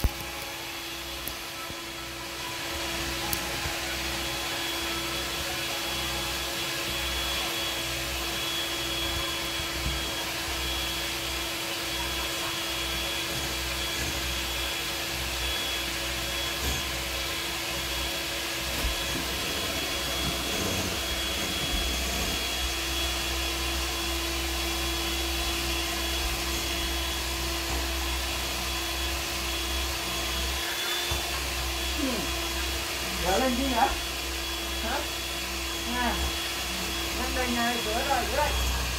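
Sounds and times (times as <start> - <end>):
small electric motor whirring: 0.0 - 38.9.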